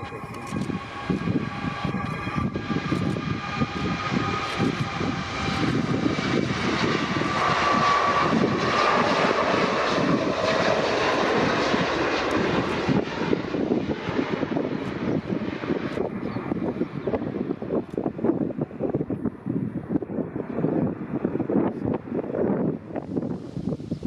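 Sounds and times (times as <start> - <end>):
jet airliner passing overhead: 0.0 - 24.0
wind buffeting on microphone: 0.0 - 24.0.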